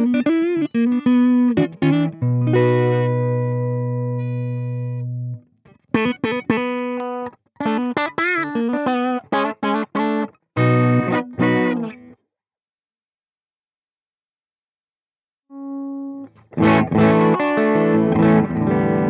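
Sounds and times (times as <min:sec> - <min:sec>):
electric guitar chords and lick: 0:00.0 - 0:12.2, 0:15.5 - 0:19.0.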